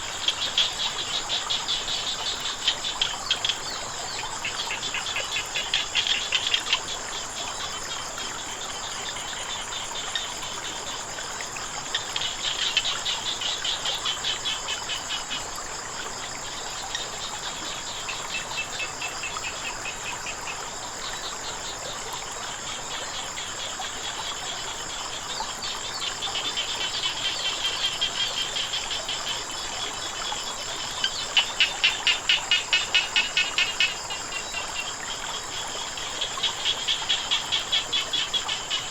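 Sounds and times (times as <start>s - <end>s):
frogs croaking: 0.0s - 38.9s
insects droning: 0.0s - 38.9s.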